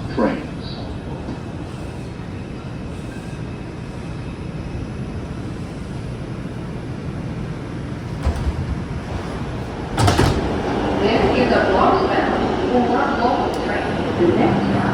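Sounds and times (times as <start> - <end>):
subway car running noise: 0.0 - 14.9.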